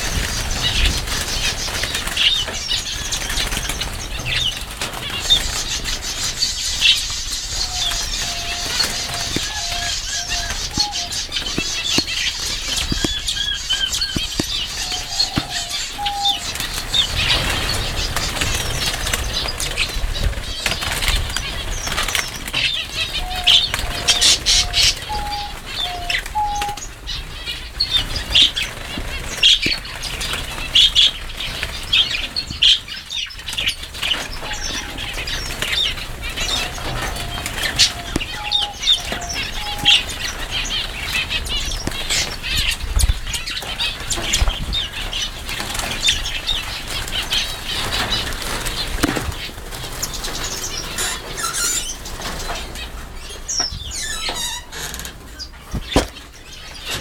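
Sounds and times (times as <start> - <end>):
finches chirping: 0.0 - 57.0
low-pitched bird notes: 0.0 - 57.0
wings fluttering: 0.0 - 57.0.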